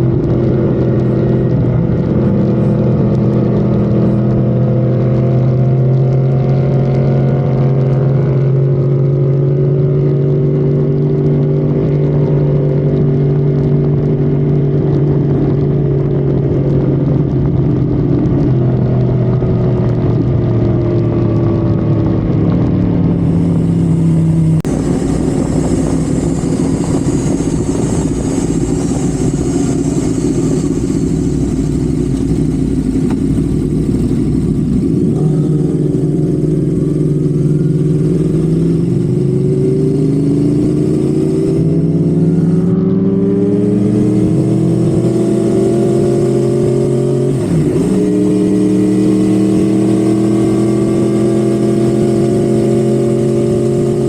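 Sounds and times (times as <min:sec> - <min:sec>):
car engine revving at speed: 0:00.0 - 0:54.0.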